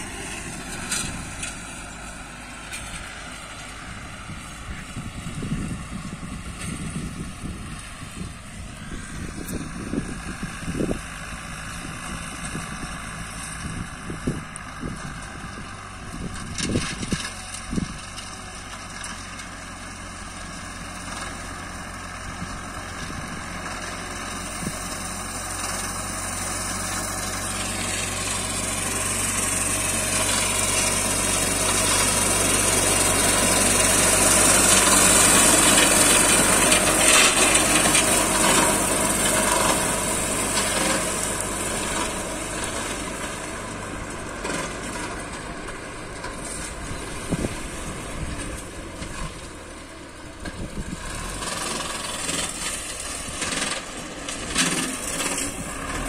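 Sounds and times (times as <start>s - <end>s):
rotary mower whirring hiss: 0.0s - 56.0s
tractor diesel engine under load: 0.0s - 56.0s.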